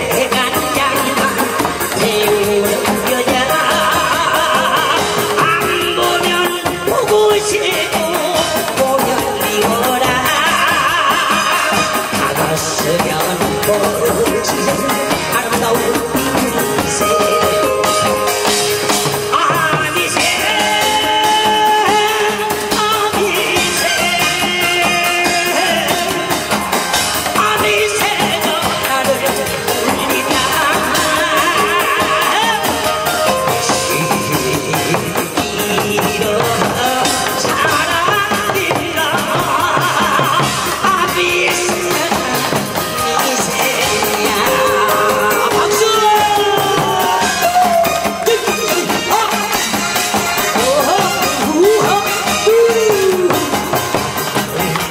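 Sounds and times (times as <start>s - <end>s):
barrel drums beaten in rhythm: 0.0s - 54.9s
man singing through microphone: 0.0s - 54.9s.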